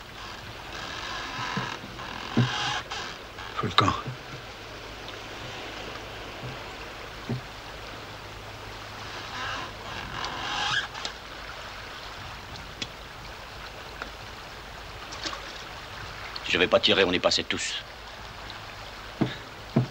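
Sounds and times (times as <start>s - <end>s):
water washing along boat hull: 0.0s - 19.9s.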